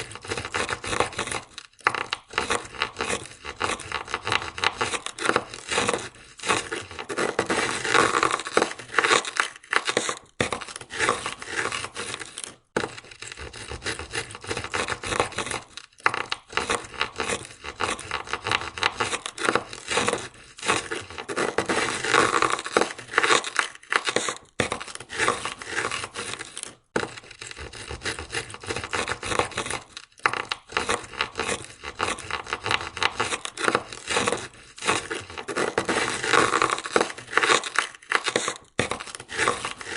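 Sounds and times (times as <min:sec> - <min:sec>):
ice scraper scraping car window: 0:00.0 - 0:39.9.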